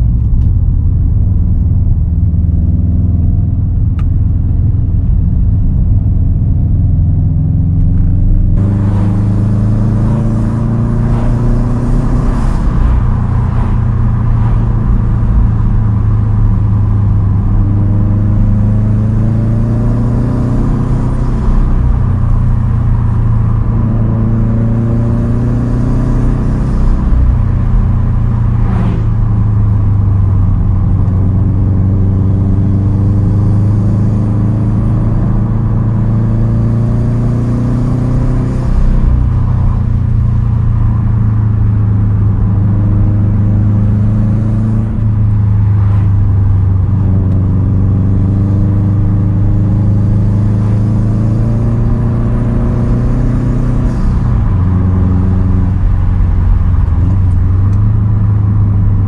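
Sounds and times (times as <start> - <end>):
car engine revving through gears: 7.7 - 41.0, 41.6 - 58.9.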